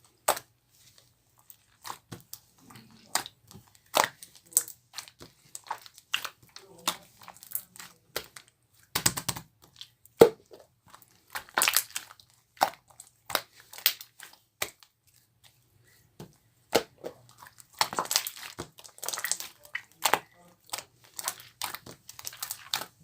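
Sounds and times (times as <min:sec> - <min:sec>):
slime popping and crackling: 0:01.5 - 0:15.0, 0:16.7 - 0:23.0.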